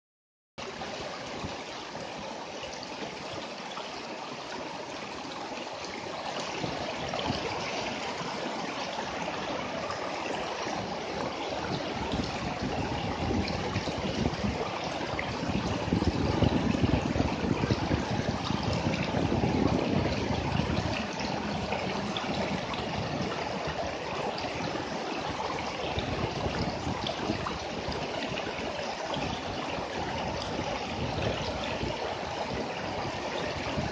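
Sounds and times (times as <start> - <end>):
river water rushing over rocks: 0.6 - 33.9.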